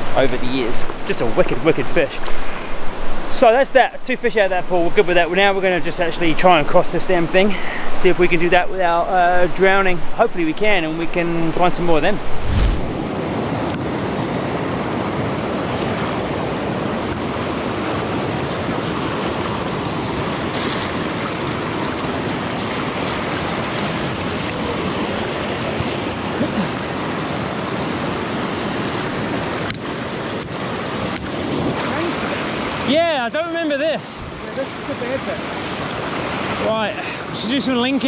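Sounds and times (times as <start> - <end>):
river rushing over boulders: 0.0 - 38.0.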